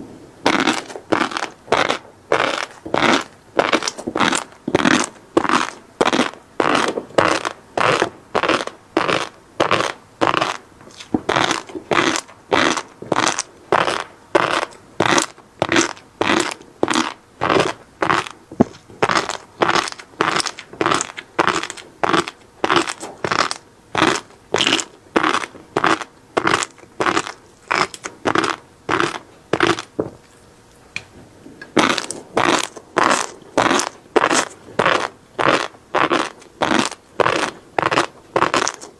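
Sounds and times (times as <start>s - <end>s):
chewing crunchy fish roe: 0.4s - 38.9s.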